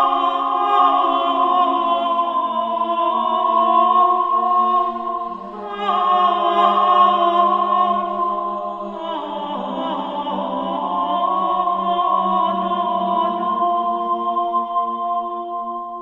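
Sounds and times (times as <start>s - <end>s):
voices chanting long notes: 0.0s - 16.0s.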